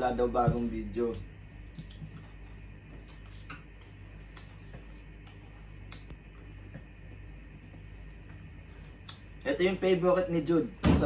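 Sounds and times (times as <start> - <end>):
low steady hum: 0.0 - 11.0
people chewing: 0.6 - 9.4.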